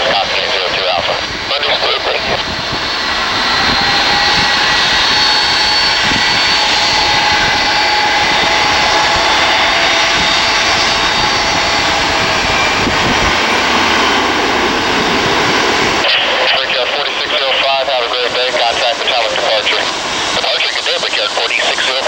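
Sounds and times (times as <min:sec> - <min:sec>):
jet engines at low power: 0:00.0 - 0:22.0.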